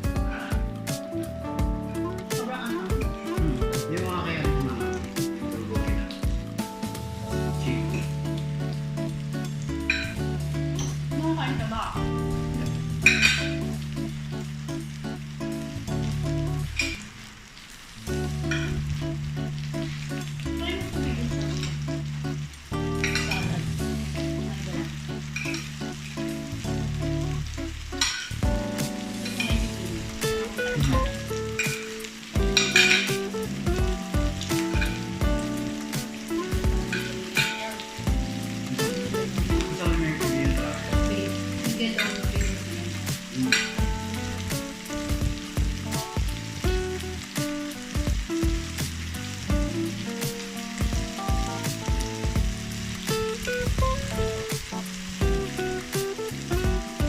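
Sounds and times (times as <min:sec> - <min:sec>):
background music: 0:00.0 - 0:57.0
pork sizzling in a hot pan: 0:00.0 - 0:57.0.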